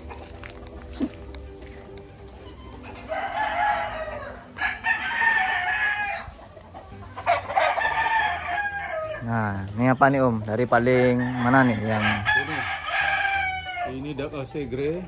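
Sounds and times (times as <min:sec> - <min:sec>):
roosters crowing: 0:00.0 - 0:14.3.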